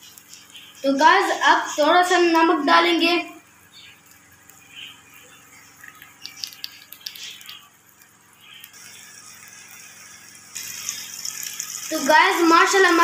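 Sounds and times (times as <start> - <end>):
vegetables frying in oil: 0.0 - 13.0.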